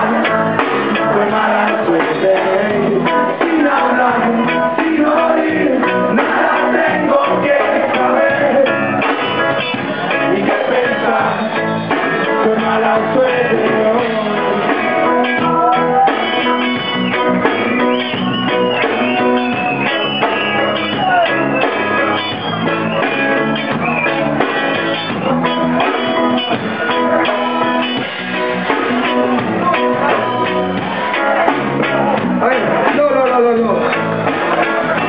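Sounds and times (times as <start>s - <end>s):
guitar: 0.0s - 35.0s
reggae band playing: 0.0s - 35.0s.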